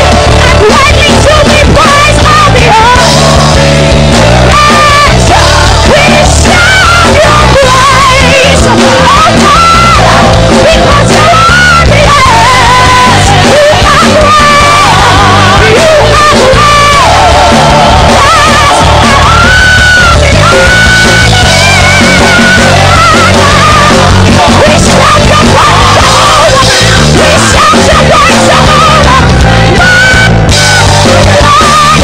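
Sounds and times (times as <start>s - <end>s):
gospel choir singing: 0.0s - 32.0s
steady bass line: 0.0s - 32.0s
woman singing lead: 0.0s - 32.0s.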